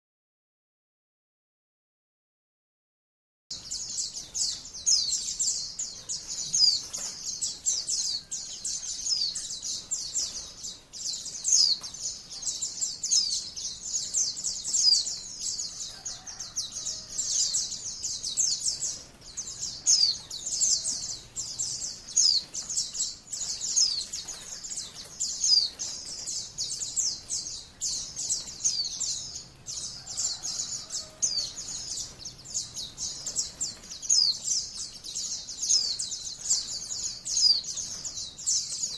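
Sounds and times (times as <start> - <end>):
bird singing rapid high chirps: 3.5 - 16.4, 17.2 - 38.9.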